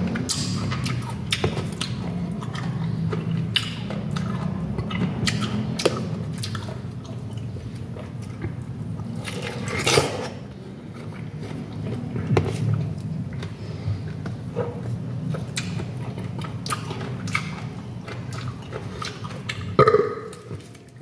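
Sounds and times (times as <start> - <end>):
person chewing juicy fruit: 0.0 - 21.0.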